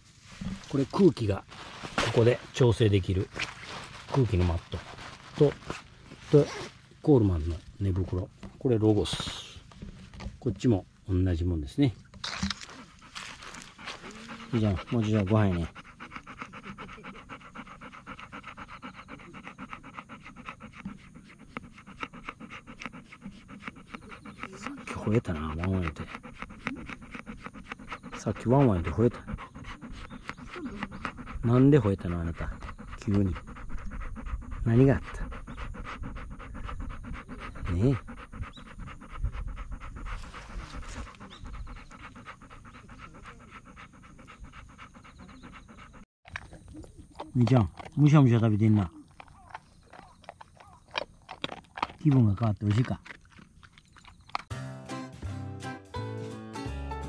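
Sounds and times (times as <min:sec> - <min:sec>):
dog panting: 0:00.0 - 0:54.6.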